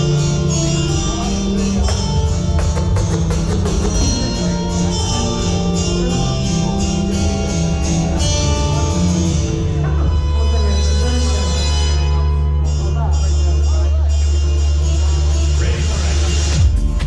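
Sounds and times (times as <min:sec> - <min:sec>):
bass-heavy dance music: 0:00.0 - 0:17.0.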